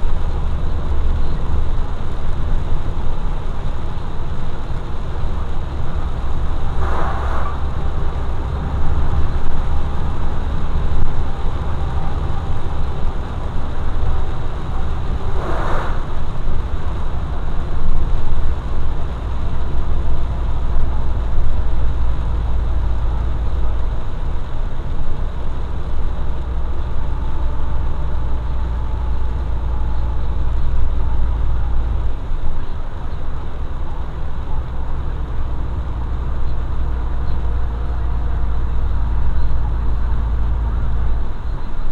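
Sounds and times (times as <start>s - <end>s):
passing vehicles swishing: 0.0s - 41.9s
vehicle interior rumble: 0.0s - 41.9s.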